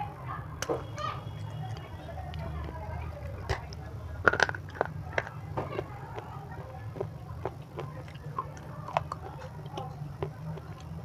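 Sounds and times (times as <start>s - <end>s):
crunchy chewing: 1.3s - 11.0s.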